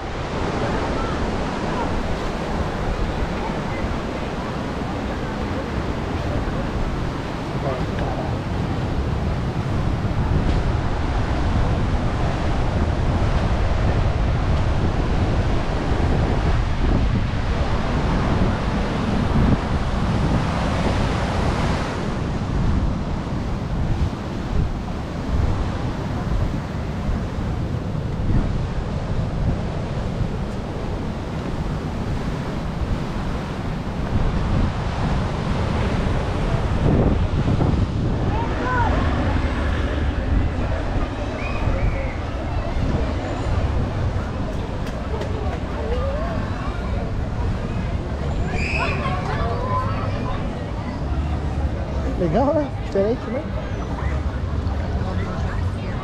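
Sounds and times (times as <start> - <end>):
ocean surf washing in: 0.0 - 56.0
wind buffeting microphone: 0.0 - 56.0.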